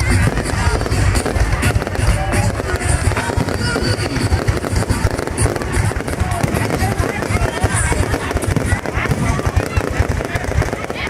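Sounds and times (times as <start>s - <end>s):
fireworks bangs and crackles: 0.0s - 11.0s
music: 0.0s - 11.0s.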